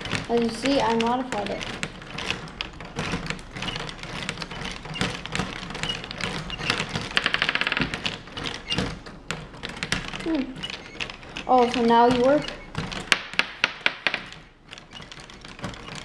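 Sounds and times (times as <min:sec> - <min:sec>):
plastic ball machine clattering: 0:00.0 - 0:16.0.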